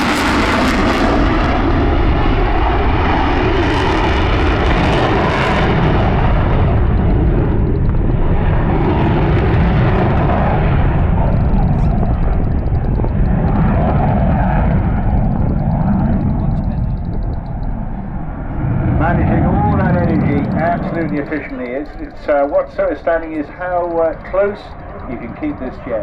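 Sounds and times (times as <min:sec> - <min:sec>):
deep jet rumble: 0:00.0 - 0:26.0.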